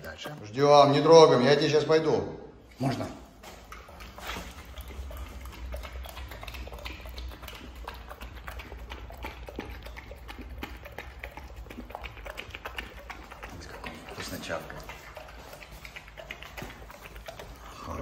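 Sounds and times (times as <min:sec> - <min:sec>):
dog eating from a bowl: 0:00.0 - 0:01.8, 0:02.8 - 0:18.0.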